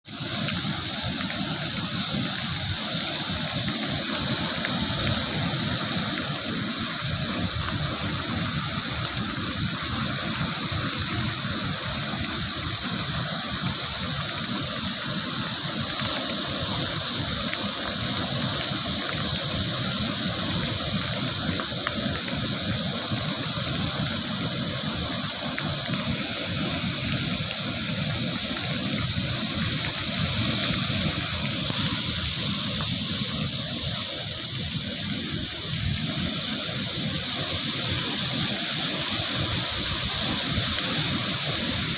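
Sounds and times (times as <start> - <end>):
wind: 0.0 - 41.9
rough sea: 0.1 - 41.9.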